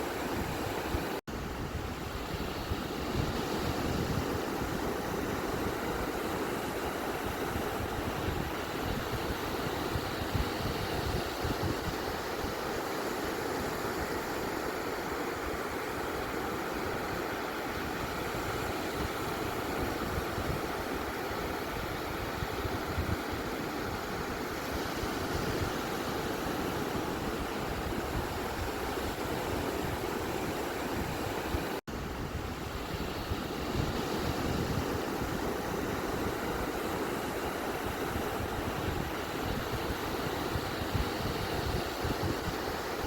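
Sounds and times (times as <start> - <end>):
beach waves and surf: 0.0 - 43.0.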